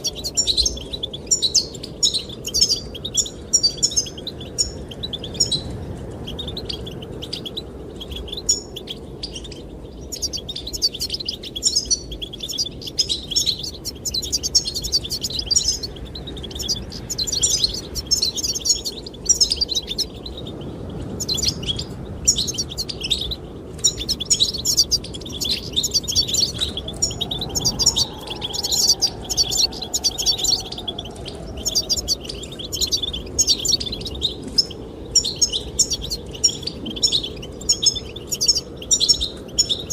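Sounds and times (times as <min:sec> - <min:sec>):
goldfinches singing: 0:00.0 - 0:39.9
low rumble of wind: 0:00.0 - 0:39.9.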